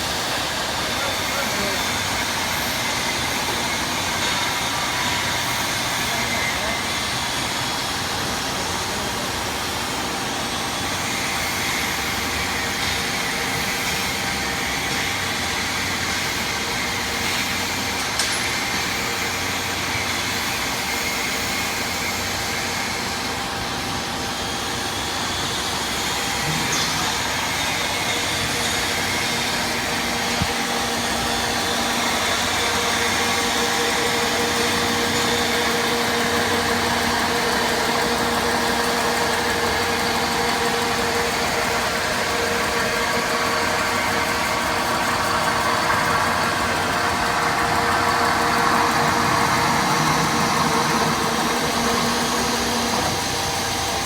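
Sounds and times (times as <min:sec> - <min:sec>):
drilling machine humming: 0:00.0 - 0:54.0.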